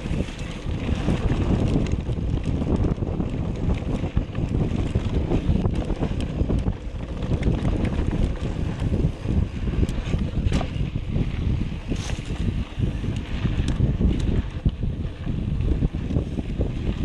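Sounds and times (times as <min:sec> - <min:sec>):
bike clicking and rattling: 0:00.0 - 0:17.0
wind buffeting microphone: 0:00.0 - 0:17.0.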